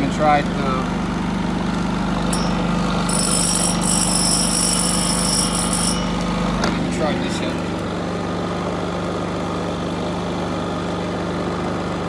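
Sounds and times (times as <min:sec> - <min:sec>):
generator engine running: 0:00.0 - 0:12.0.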